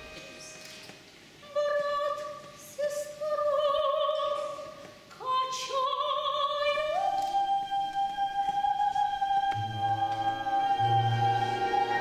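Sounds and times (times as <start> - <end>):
woman singing operatically: 1.4 - 12.0.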